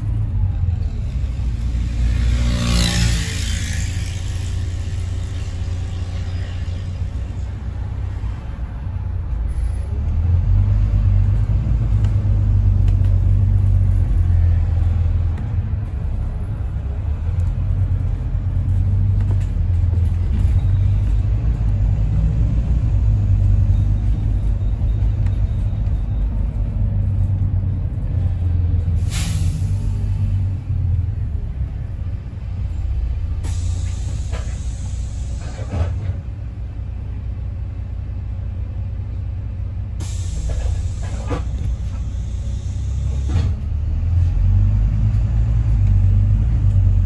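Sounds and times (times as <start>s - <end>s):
bus engine rumble: 0.0s - 47.0s.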